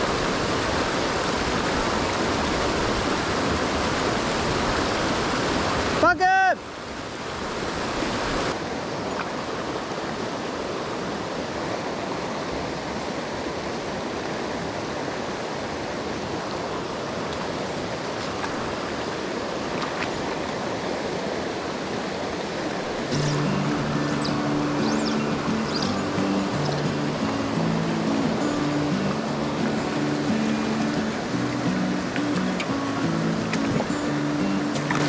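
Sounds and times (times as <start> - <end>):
stream water running over rocks: 0.0 - 35.0.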